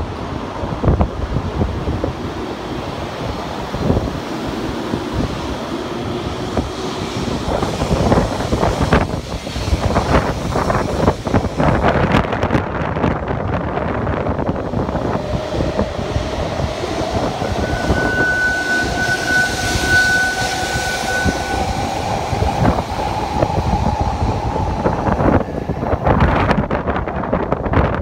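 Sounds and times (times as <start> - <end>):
electric train whine: 0.0 - 28.0
wind buffeting microphone: 0.0 - 28.0
steady high tone: 1.9 - 11.8, 14.2 - 27.2.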